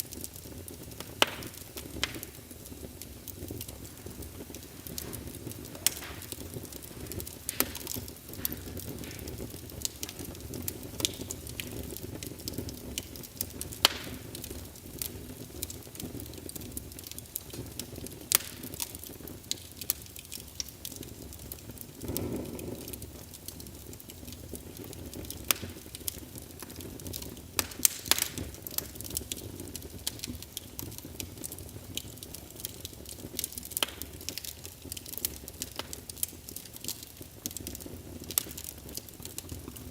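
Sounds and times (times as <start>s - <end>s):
fire crackling and popping: 0.0s - 39.9s
low flame rumble: 0.0s - 39.9s.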